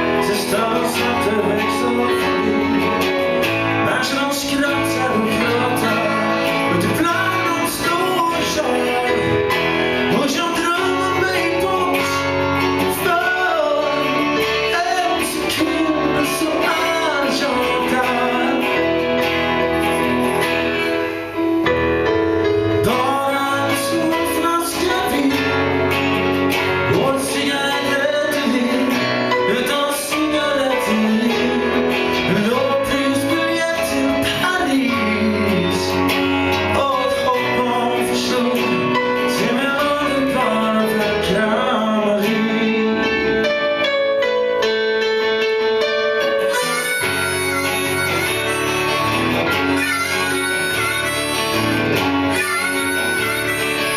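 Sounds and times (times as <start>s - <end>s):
person singing: 0.0s - 44.0s, 45.8s - 53.9s
live band playing: 0.0s - 53.9s.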